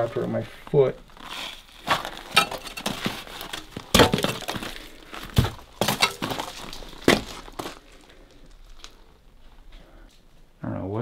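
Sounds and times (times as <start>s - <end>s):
feet crunching through debris: 0.0s - 9.7s.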